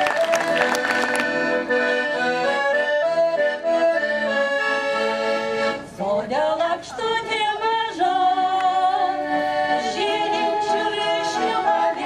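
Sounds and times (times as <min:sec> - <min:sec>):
accordion playing folk melody: 0:00.0 - 0:12.0.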